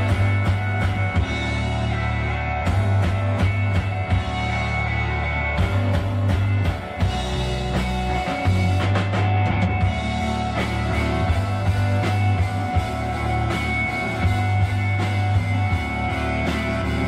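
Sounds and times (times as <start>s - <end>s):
electric guitar: 0.0s - 17.0s
psychedelic rock band playing: 0.0s - 17.0s.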